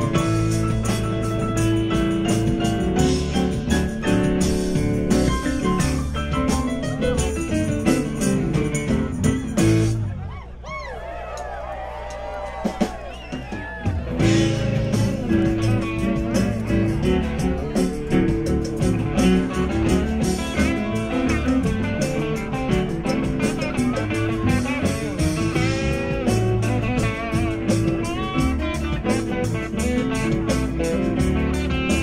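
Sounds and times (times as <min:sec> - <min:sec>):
steady drum beat: 0:00.0 - 0:10.1, 0:12.4 - 0:32.0
electric guitar line: 0:00.0 - 0:10.4, 0:13.8 - 0:32.0
bass guitar: 0:00.0 - 0:32.0.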